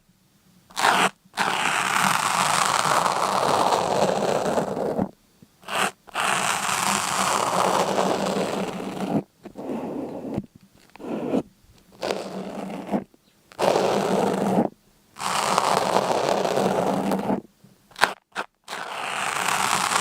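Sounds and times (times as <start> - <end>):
crunchy scraping strokes: 0.7 - 20.0.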